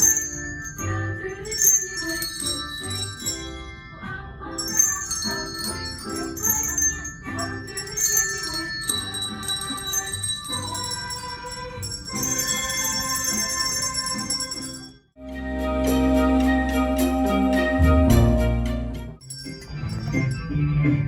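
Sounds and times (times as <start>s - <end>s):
handbells playing a tune: 0.0s - 21.0s.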